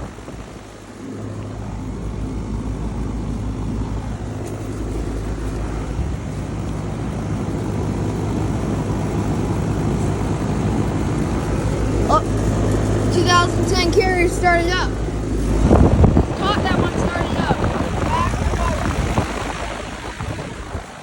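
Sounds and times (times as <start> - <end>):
air conditioner compressor hum: 0.0 - 21.0.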